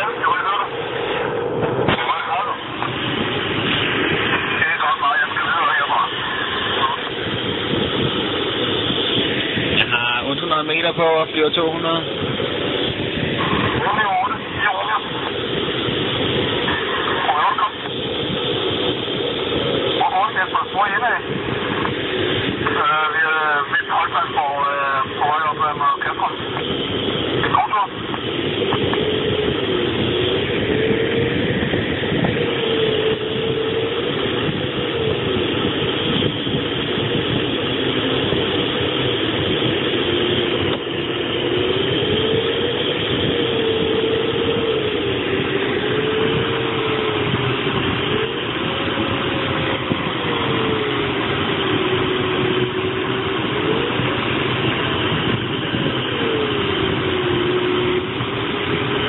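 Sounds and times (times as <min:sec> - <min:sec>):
air rushing around cockpit: 0:00.0 - 0:59.0.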